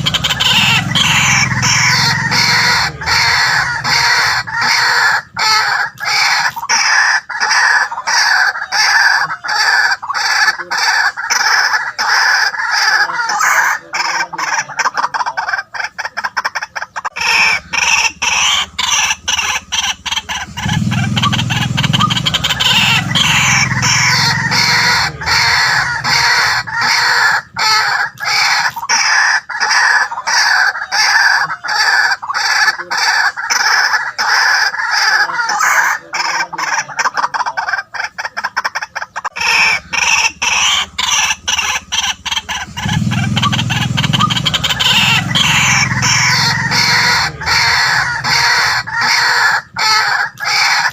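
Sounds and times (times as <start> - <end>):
waterhen calling harsh notes: 0.0 - 50.9.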